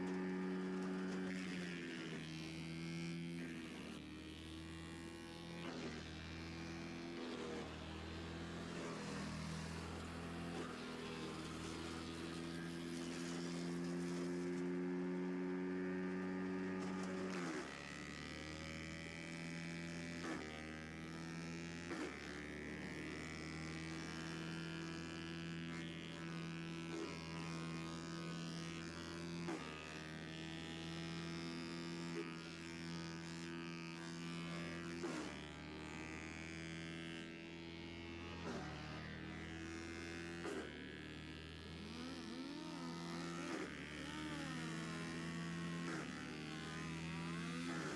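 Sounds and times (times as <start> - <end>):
wood chipper engine running: 0.0 - 47.9.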